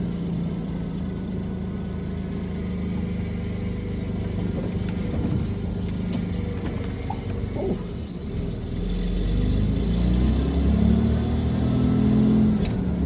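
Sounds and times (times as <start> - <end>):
truck engine running under load: 0.0 - 11.8.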